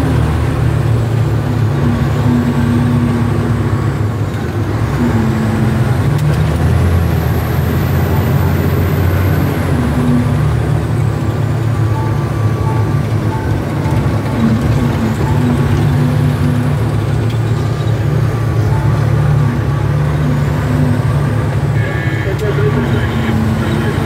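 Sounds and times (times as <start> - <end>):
heavy vehicle engine rumble: 0.0 - 24.0.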